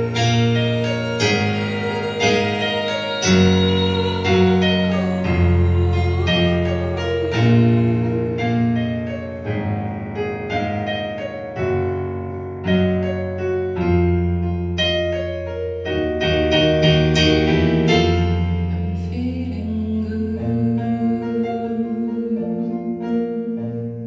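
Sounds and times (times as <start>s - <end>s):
digital keyboard piano playing: 0.0s - 24.0s.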